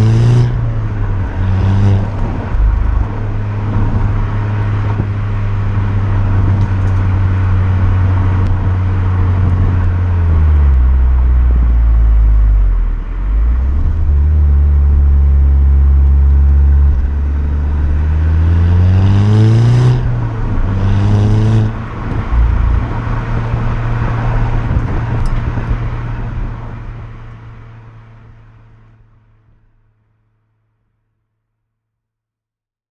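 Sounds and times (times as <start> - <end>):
car engine running while driving: 0.0 - 30.0.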